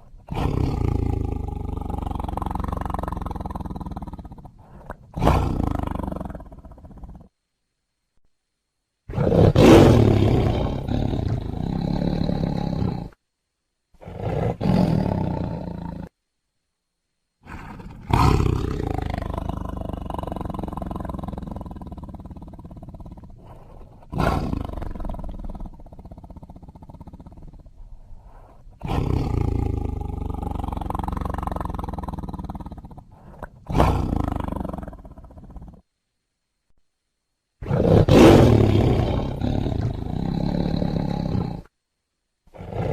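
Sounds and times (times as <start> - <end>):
tiger roaring: 0.0 - 7.3, 9.1 - 13.2, 14.0 - 16.1, 17.4 - 35.8, 37.6 - 41.7, 42.5 - 42.9.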